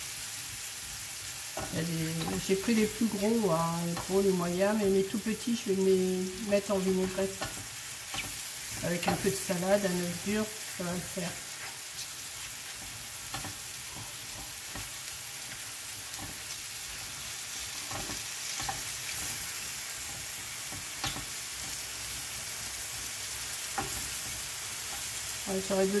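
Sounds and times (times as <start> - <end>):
mushrooms sizzling in a frying pan: 0.0 - 26.0.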